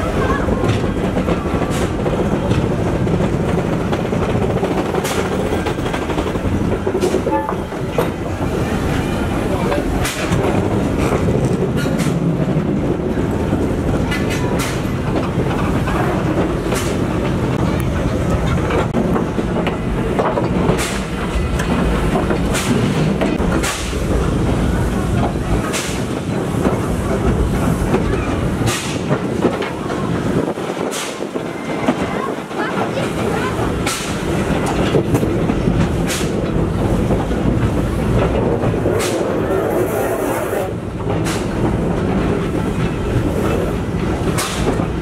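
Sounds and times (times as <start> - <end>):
train wheels rumbling on track: 0.0 - 45.0
wheels clicking over rail joints: 0.0 - 45.0.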